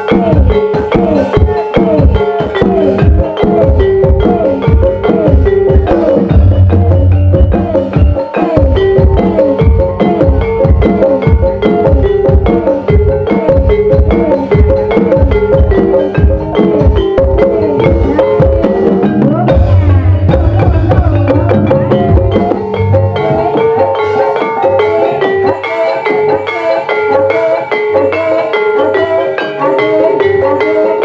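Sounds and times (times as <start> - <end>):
gamelan music: 0.0 - 31.0.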